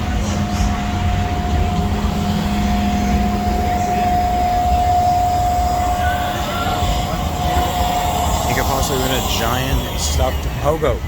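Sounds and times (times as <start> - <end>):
lower hum: 0.0 - 10.6
machine high whine: 0.0 - 11.0
machine low rumble: 0.0 - 11.0.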